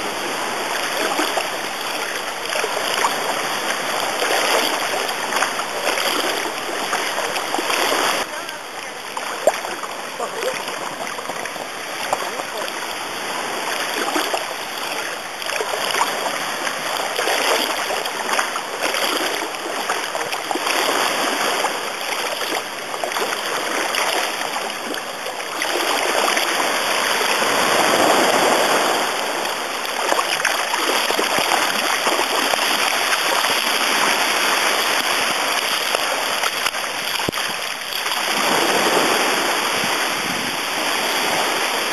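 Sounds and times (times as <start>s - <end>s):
seawater sloshing and splashing: 0.0s - 41.9s.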